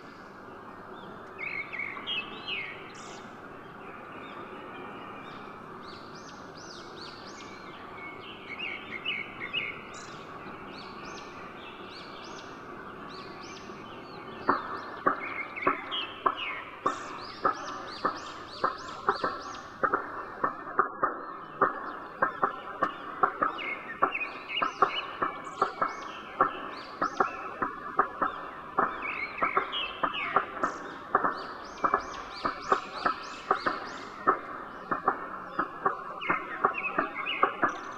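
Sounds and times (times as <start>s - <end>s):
small birds chirping: 0.0s - 37.9s
steady background hiss: 0.0s - 37.9s.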